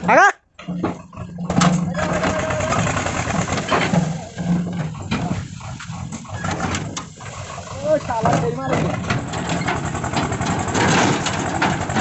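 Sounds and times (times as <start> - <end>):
tractor diesel engine running: 0.0 - 12.0
soil sliding out: 1.3 - 12.0.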